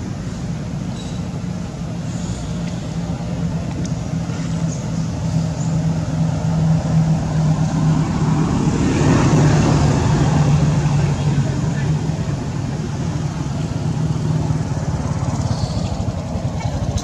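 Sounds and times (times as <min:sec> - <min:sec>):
engine hum: 0:00.0 - 0:17.0.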